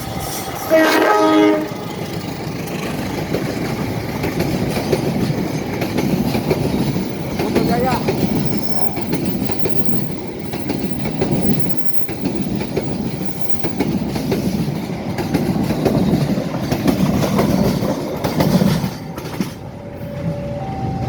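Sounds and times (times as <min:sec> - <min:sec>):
train wheels clattering over rails: 0:01.6 - 0:20.5.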